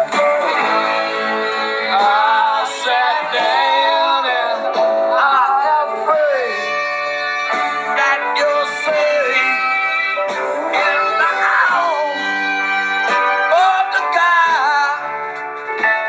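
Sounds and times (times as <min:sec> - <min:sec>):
person singing: 0:00.0 - 0:15.3
guitar: 0:00.0 - 0:16.0.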